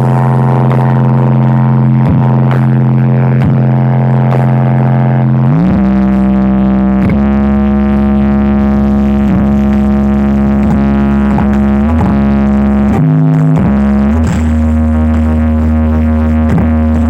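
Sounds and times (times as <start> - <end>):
buzzy droning music: 0.0 - 17.0.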